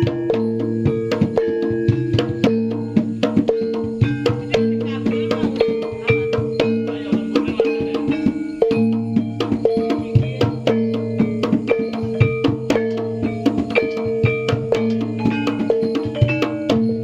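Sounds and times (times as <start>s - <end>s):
gamelan percussion music: 0.0s - 17.0s.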